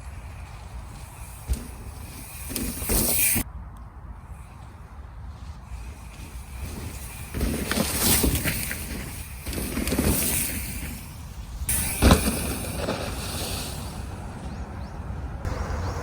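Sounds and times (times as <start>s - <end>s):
bike rattling: 0.0s - 3.5s, 4.1s - 15.6s.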